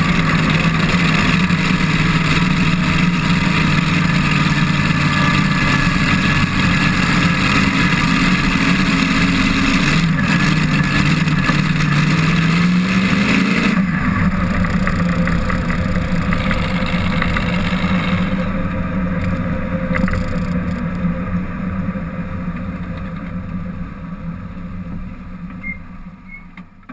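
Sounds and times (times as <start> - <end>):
rushing wind: 0.0 - 24.4
engine running low: 0.0 - 26.9.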